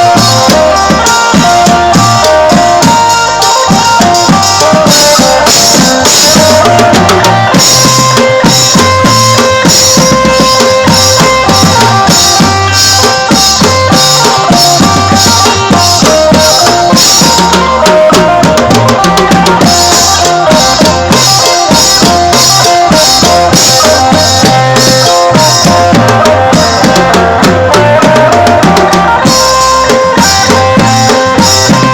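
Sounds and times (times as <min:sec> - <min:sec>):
band playing held-note melody: 0:00.0 - 0:31.9
drum kit and bass beat: 0:00.0 - 0:31.9.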